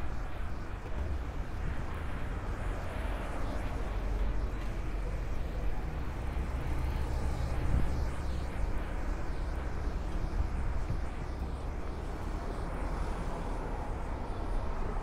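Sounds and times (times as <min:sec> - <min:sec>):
street noise: 0:00.0 - 0:15.0
traffic rumble: 0:00.0 - 0:15.0.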